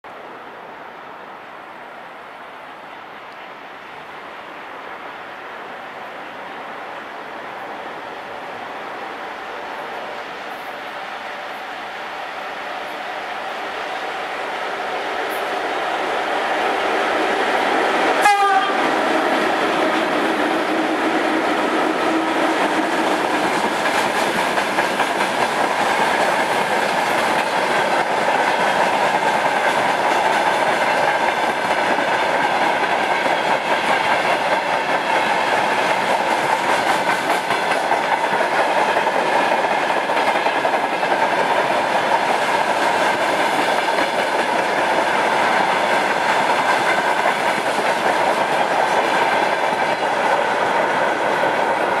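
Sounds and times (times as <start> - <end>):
train wheels running over rails: 7.6 - 52.0.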